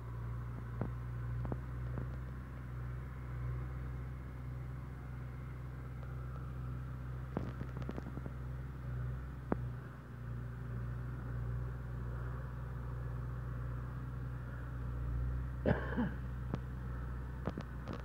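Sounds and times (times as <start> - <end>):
tractor engine droning: 0.0 - 18.0.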